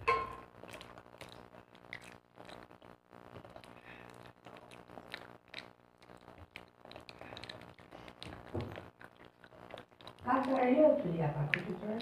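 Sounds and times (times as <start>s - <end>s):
steady low hum: 0.0s - 12.0s
children chewing: 0.1s - 12.0s.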